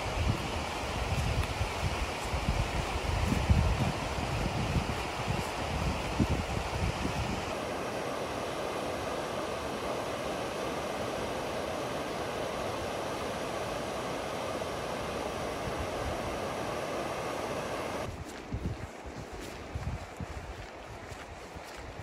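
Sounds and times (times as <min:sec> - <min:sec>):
river rushing over rapids: 0:00.0 - 0:18.1.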